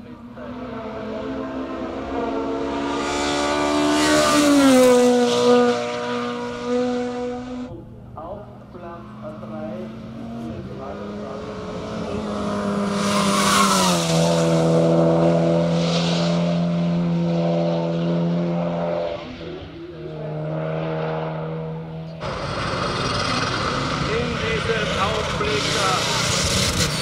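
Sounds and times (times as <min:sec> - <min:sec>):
rally car engine at high revs: 0:00.0 - 0:27.0.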